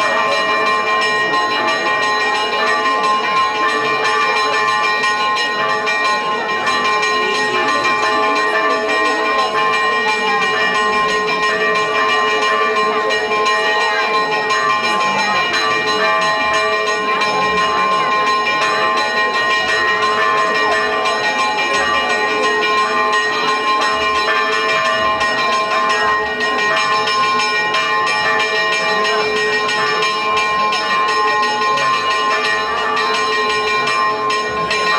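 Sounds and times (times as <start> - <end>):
church bells pealing: 0.0 - 34.9.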